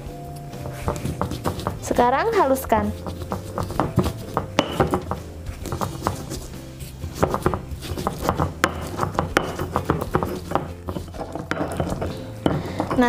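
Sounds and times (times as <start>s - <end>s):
stone pestle grinding on stone: 0.6s - 13.0s.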